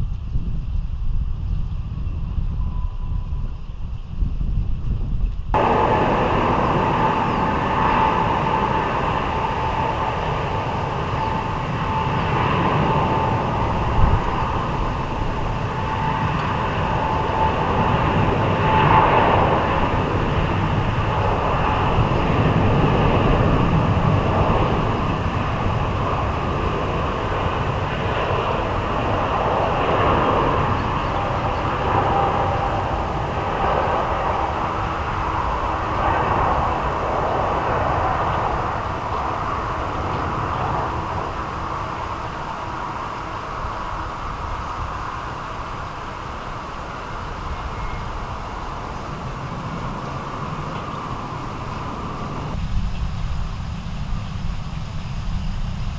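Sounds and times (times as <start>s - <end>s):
jet engines roaring: 5.6s - 46.4s, 49.1s - 55.9s.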